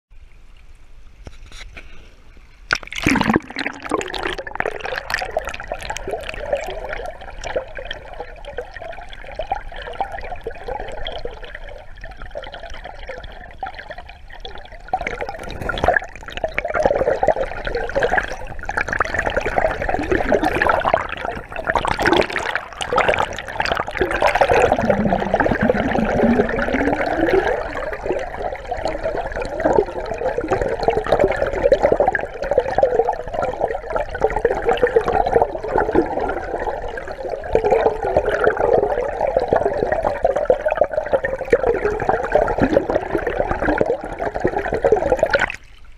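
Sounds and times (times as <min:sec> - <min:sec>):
river water gurgling and swirling: 0:02.7 - 0:45.7
water rushing: 0:02.7 - 0:45.8.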